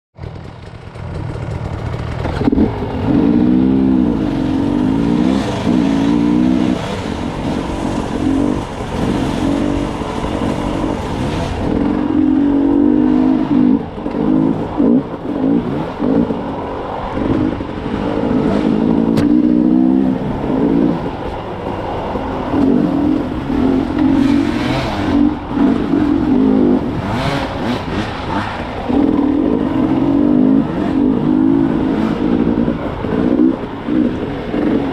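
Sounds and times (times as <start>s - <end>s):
dirt bike engine revving: 2.0s - 34.9s.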